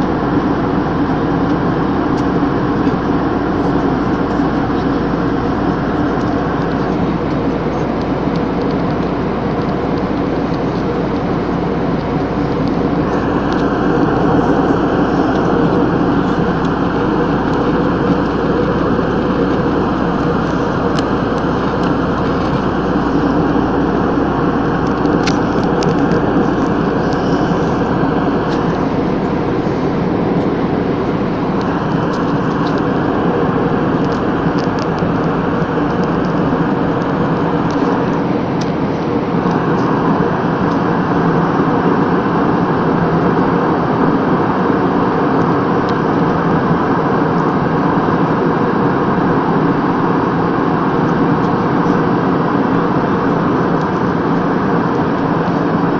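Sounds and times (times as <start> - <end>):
airplane engine drone: 0.0 - 55.9.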